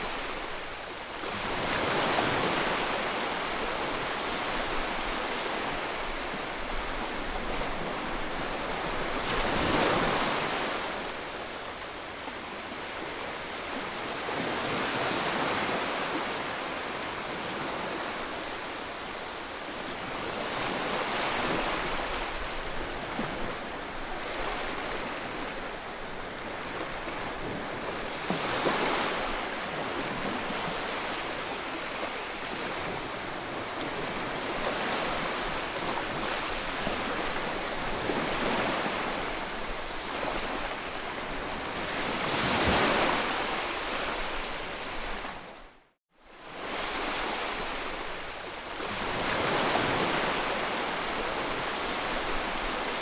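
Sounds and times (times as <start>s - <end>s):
ocean surf washing onto shore: 0.0s - 45.7s.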